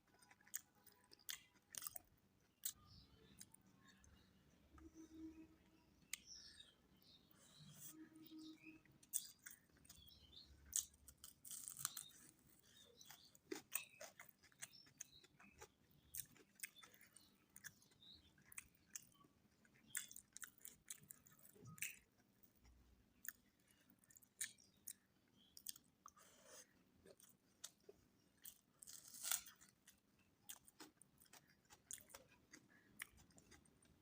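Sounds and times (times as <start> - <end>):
person chewing food: 0.0 - 4.9, 6.1 - 34.0.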